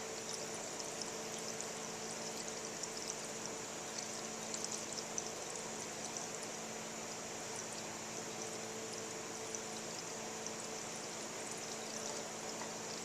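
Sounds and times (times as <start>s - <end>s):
coolant pouring through a funnel: 0.0s - 13.0s.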